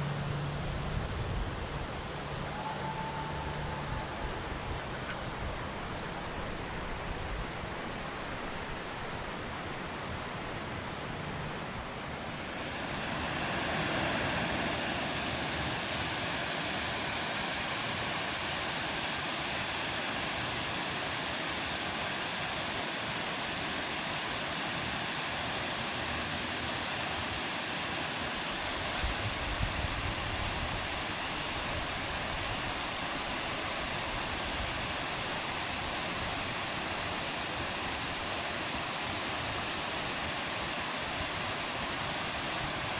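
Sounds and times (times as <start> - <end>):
river water rushing below a dam: 0.0 - 42.9.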